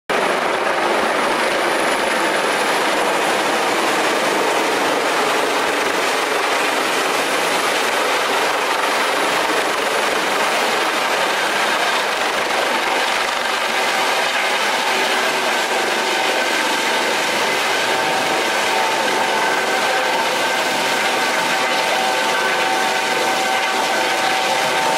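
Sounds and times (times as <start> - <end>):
helicopter landing: 0.1 - 24.9.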